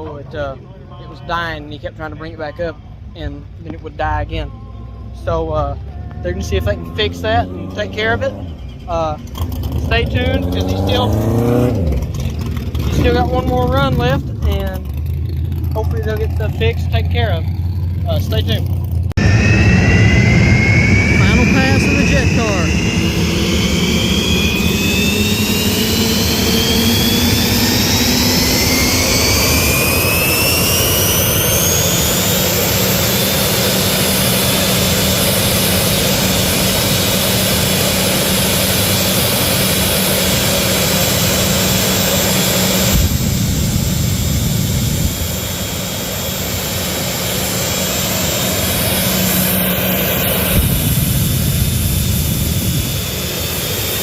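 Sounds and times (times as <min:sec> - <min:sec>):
jet turbine engine whine: 0:00.0 - 0:54.0
heavy rushing noise: 0:06.2 - 0:54.0.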